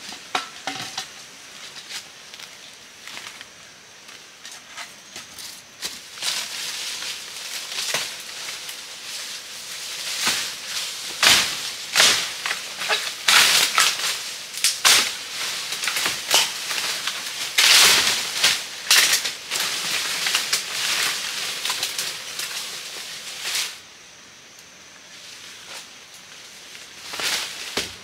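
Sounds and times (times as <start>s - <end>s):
leaves and twigs crackling underfoot: 0.0s - 28.0s.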